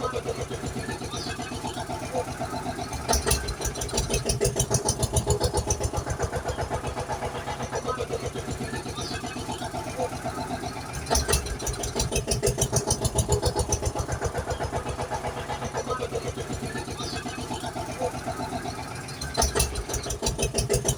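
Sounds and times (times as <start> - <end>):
tractor engine chugging: 0.0 - 20.9.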